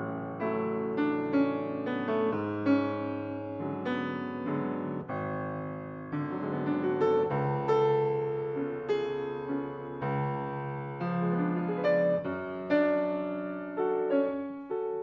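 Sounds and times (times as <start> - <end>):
classical piano piece: 0.0 - 15.0.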